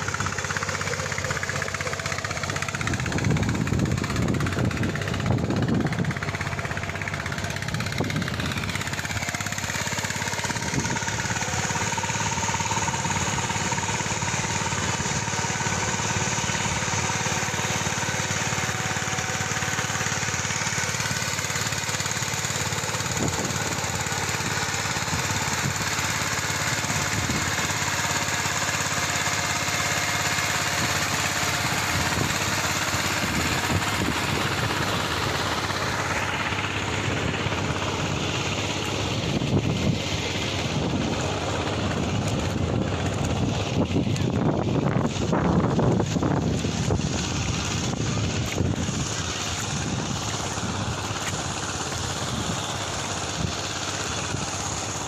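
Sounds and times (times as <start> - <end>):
ploughing machine engine running: 0.0 - 55.0.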